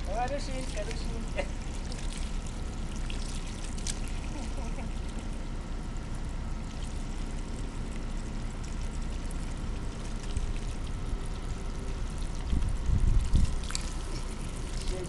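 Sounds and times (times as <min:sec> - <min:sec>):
water splashing from garden hose: 0:00.0 - 0:15.0.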